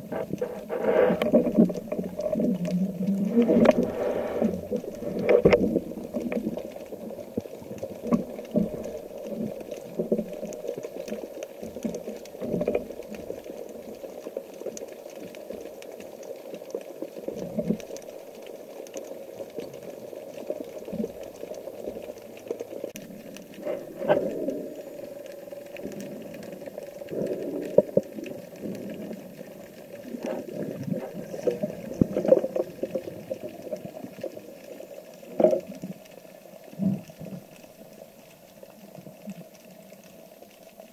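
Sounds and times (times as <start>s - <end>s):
muffled underwater wash: 0.0s - 40.9s
underwater bubbling: 0.0s - 40.9s.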